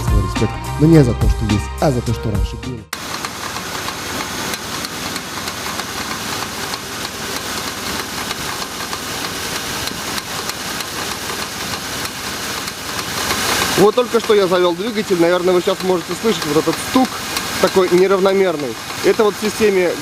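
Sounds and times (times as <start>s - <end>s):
engine idling: 2.9s - 20.0s
rapid ticking knock: 3.0s - 20.0s.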